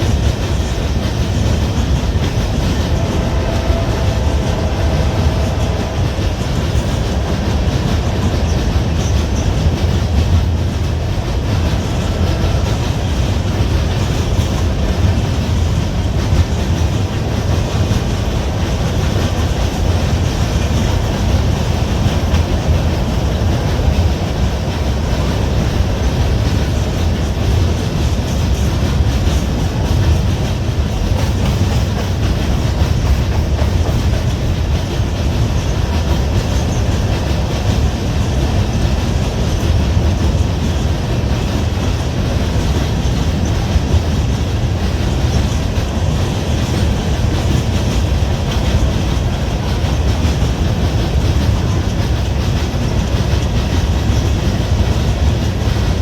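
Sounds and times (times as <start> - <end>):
freight train cars rolling: 0.0 - 56.0.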